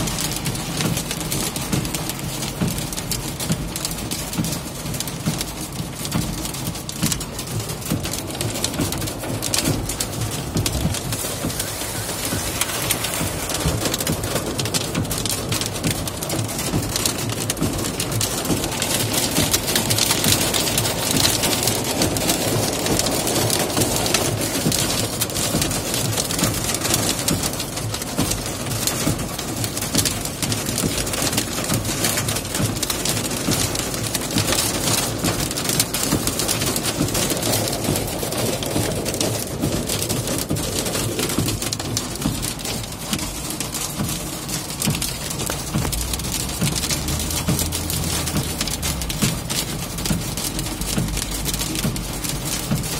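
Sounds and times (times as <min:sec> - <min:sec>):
hail pelting a van: 0:00.0 - 0:52.9
hiss of heavy rain: 0:00.0 - 0:52.9.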